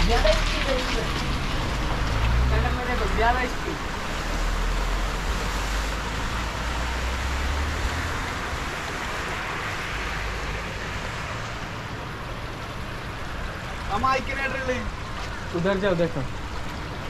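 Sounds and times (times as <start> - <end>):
rain and running floodwater: 0.0 - 17.0.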